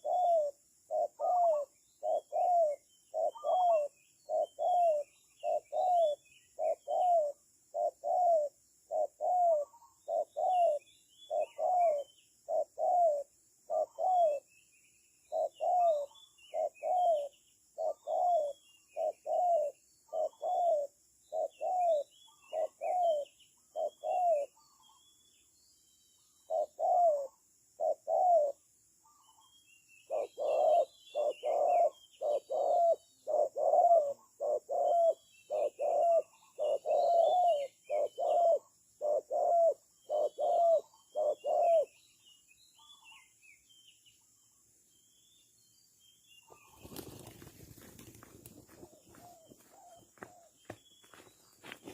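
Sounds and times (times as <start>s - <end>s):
dove cooing: 0.0s - 14.5s, 15.3s - 25.0s, 26.5s - 42.0s, 46.5s - 51.9s
small birds chirping: 0.0s - 51.9s.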